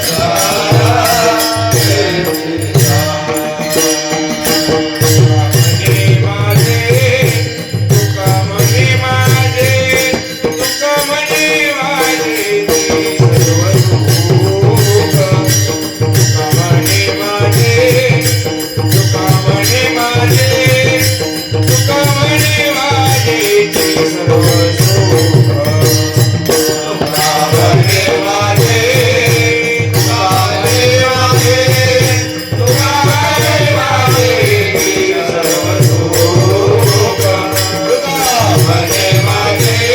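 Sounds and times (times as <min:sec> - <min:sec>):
man singing devotional melody: 0:00.0 - 0:39.9.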